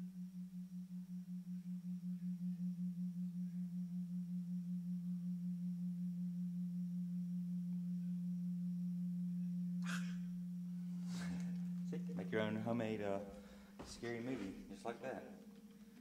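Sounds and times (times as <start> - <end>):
low electronic hum: 0.0 - 16.0.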